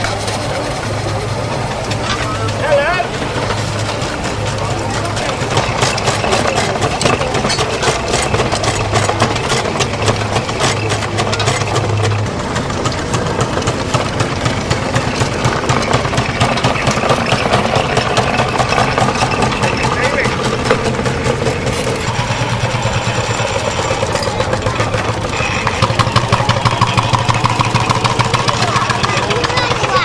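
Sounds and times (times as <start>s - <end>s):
steam engine beat: 0.0s - 30.0s.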